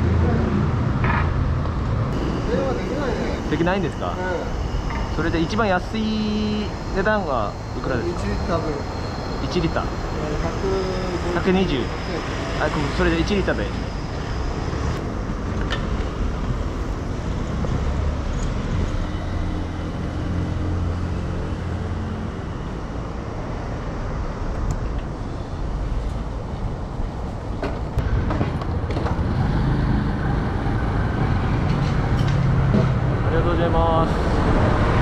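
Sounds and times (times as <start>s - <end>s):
city traffic rumble: 0.0s - 35.0s.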